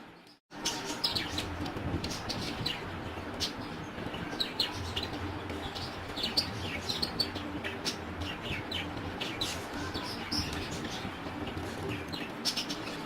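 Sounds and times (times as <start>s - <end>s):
budgies chirping: 0.6s - 13.0s.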